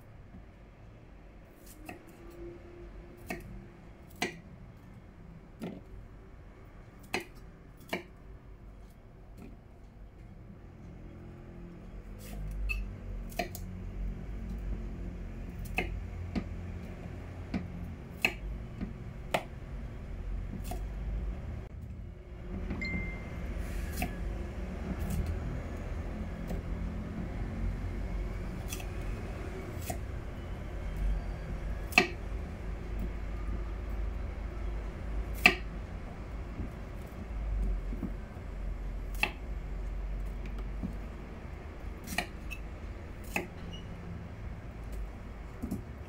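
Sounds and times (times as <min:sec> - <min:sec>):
low steady hum: 0:02.2 - 0:46.0.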